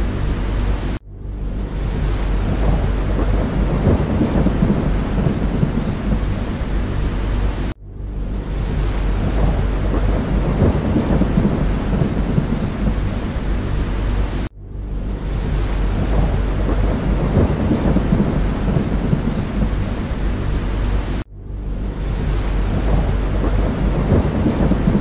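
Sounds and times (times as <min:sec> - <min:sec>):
heavy rain: 0:00.0 - 0:25.0
low rumble: 0:00.0 - 0:25.0.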